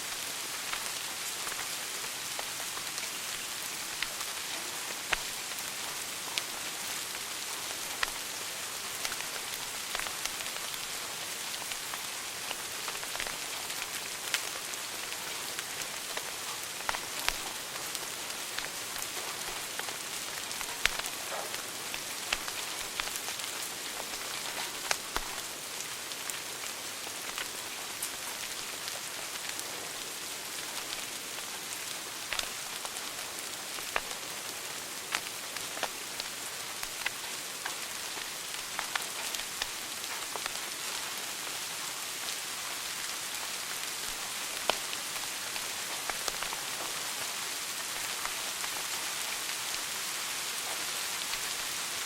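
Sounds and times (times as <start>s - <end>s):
wood fire crackling: 0.1s - 42.0s, 42.6s - 52.0s.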